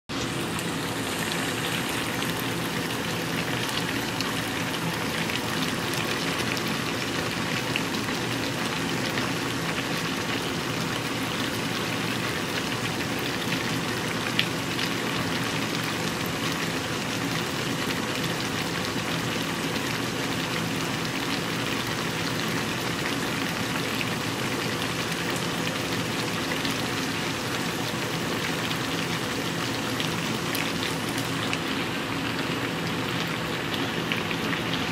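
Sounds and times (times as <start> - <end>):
food sizzling and bubbling in pot: 0.1 - 34.9.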